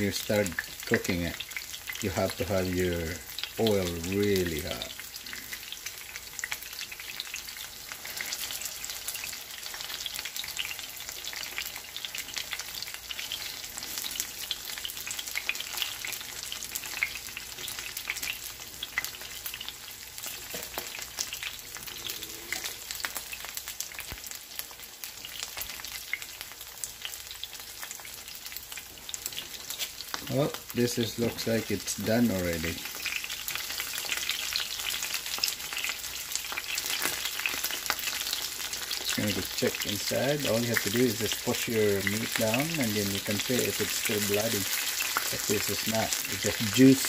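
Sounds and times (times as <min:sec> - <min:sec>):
schnitzels sizzling in oil: 0:00.0 - 0:47.0.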